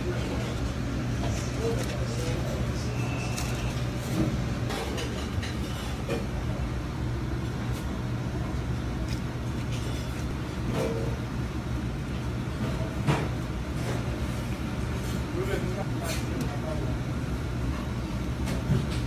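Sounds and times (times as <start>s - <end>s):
kitchen machinery hum: 0.0s - 19.0s.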